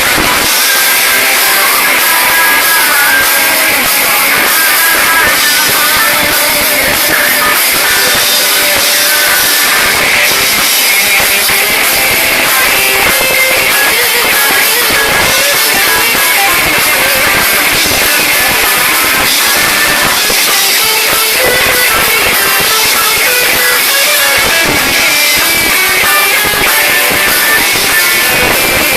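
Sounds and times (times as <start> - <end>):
drum kit: 0.0 - 28.9
electric guitar: 0.0 - 28.9.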